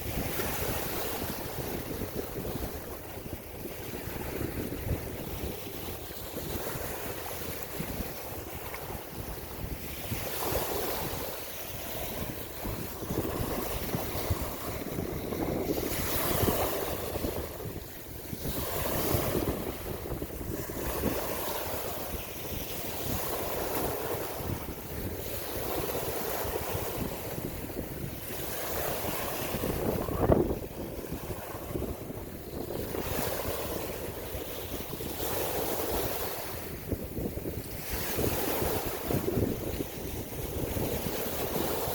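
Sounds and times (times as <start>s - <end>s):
waves washing in: 0.0s - 41.9s
wind buffeting microphone: 0.0s - 41.9s.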